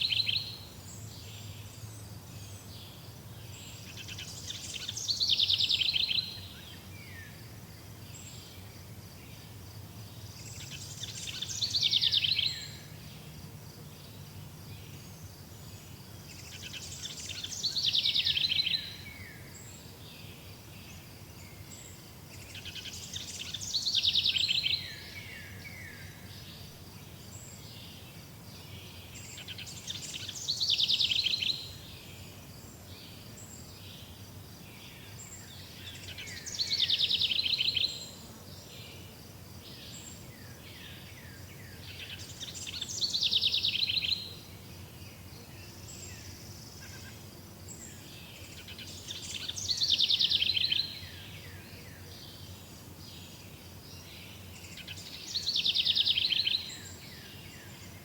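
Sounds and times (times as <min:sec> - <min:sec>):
faint steady background noise: 0:00.0 - 0:58.0.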